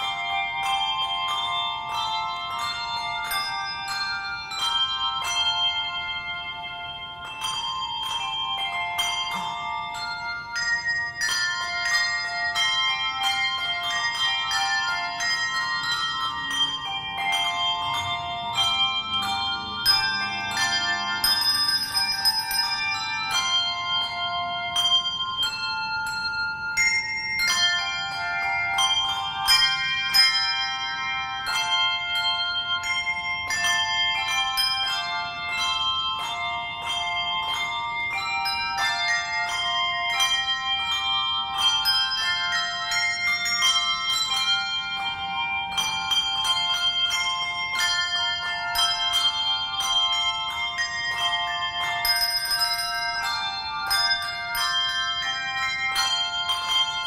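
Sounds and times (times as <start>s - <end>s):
handbell choir playing: 0.0s - 57.0s
rapid bell ringing: 0.0s - 57.0s.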